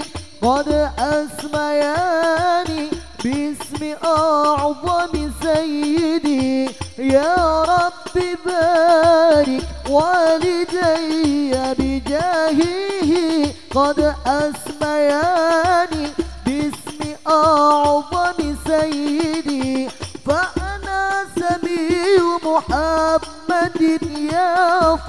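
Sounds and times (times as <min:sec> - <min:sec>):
low beat: 0:00.0 - 0:25.0
man singing into a microphone: 0:00.0 - 0:25.0.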